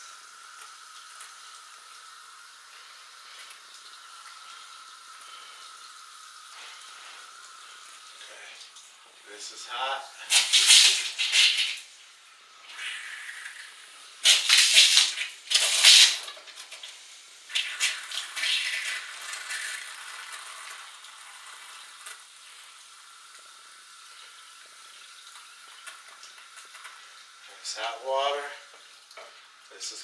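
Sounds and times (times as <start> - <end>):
water running from a tap: 0.0 - 30.0.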